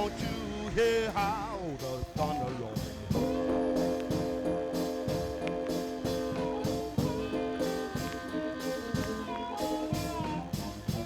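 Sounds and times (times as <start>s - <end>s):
blues song: 0.0s - 11.0s
guitar notes: 0.0s - 11.0s
steady drum beat: 0.0s - 11.0s.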